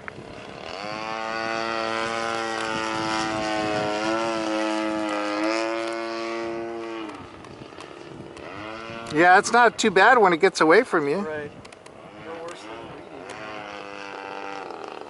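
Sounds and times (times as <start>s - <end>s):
model plane engine flying by: 0.0s - 15.0s.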